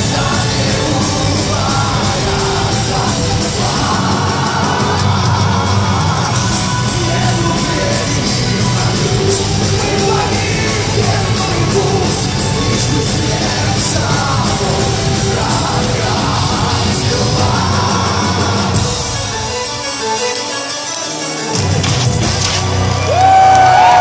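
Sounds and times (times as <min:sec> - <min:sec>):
person singing: 0:00.0 - 0:21.5
heavy metal band playing: 0:00.0 - 0:24.0.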